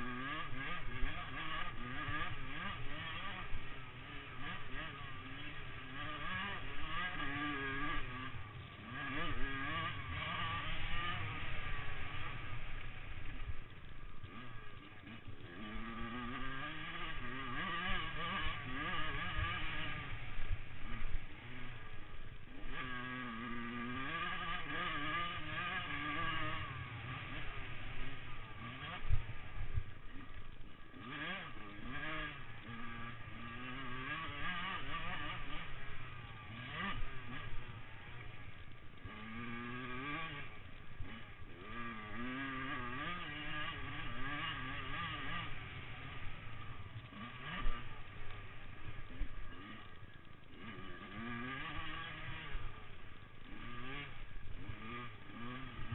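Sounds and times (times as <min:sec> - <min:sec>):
motorcycle engines revving: 0:00.0 - 0:55.9.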